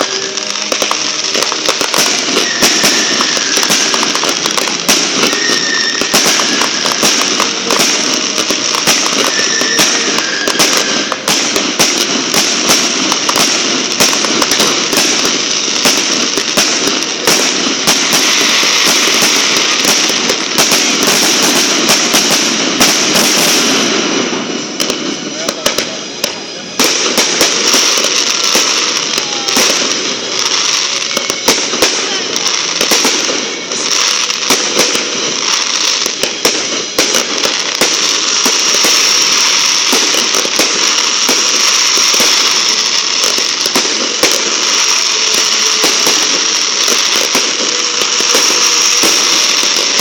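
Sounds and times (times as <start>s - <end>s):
crackling hiss: 0.0s - 50.0s
fireworks cracks and bangs: 0.0s - 50.0s.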